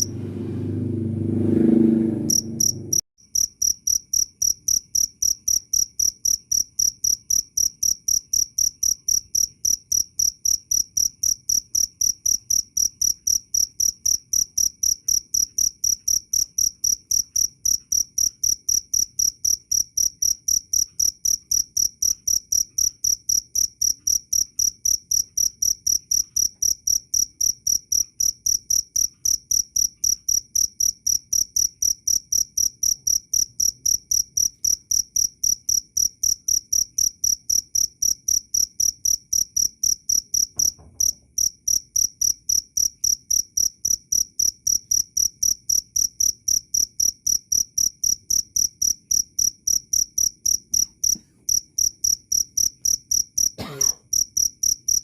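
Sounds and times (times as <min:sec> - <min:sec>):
cricket chirping: 0:02.3 - 0:55.0.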